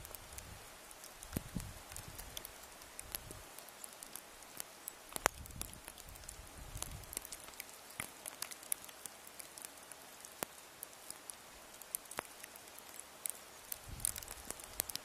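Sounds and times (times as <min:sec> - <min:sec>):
faint steady hiss: 0:00.0 - 0:15.0
sharp ticks and taps: 0:00.9 - 0:13.4.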